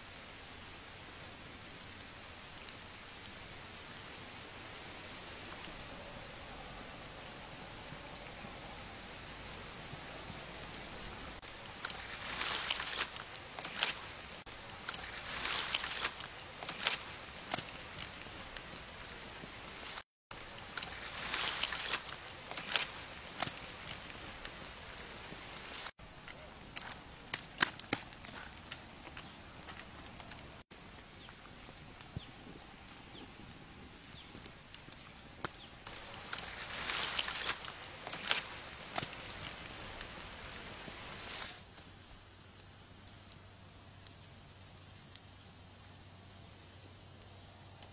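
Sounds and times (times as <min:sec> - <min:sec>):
campfire crackling and popping: 0:01.9 - 0:47.9.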